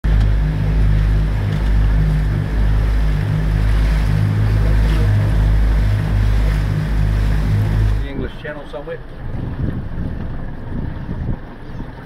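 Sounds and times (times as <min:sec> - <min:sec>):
boat engine drone: 0:00.0 - 0:12.0
water rushing past hull: 0:00.0 - 0:12.0
wind buffeting microphone: 0:00.0 - 0:12.0.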